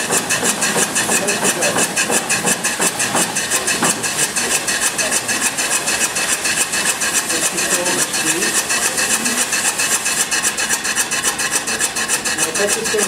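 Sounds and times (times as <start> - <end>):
steam engine exhaust puffing: 0.0 - 13.0.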